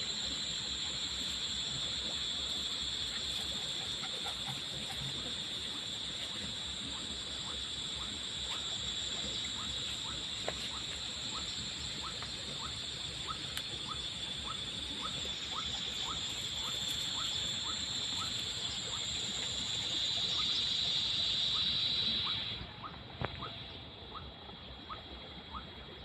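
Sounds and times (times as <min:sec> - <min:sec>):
high-pitched insect drone: 0:00.0 - 0:23.7.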